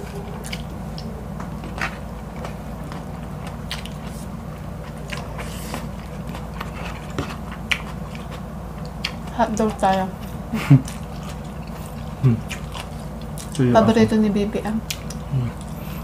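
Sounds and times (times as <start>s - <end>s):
people chewing food: 0.0s - 16.0s
steady low hum: 0.0s - 16.0s.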